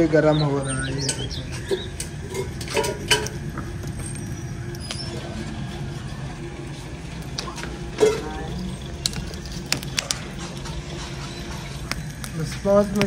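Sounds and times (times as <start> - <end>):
churning machine motor hum: 0.0 - 13.0.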